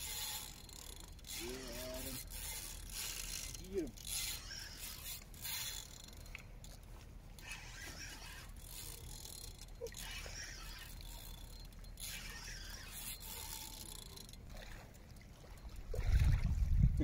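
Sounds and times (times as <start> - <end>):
fishing reel being cranked: 0.0 - 16.5.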